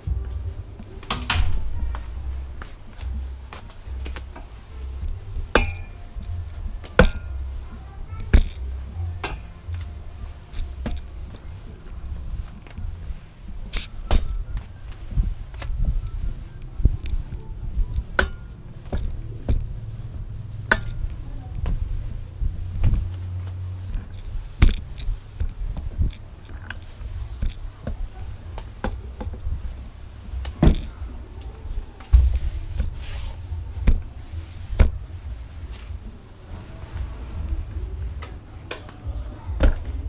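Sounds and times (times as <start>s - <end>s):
mop rubbing on tiles: 1.8s - 37.6s.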